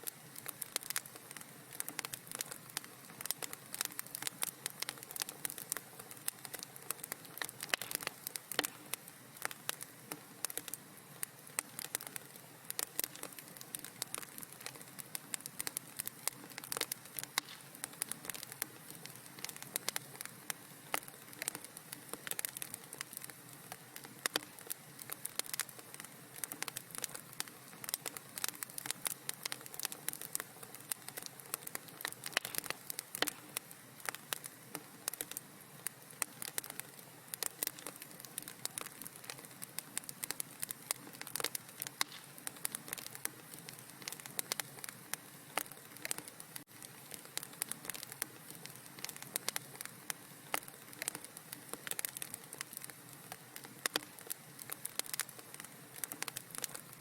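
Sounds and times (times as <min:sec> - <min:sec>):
soft steady hiss: 0:00.0 - 0:57.0
wood fire crackling: 0:00.0 - 0:57.0.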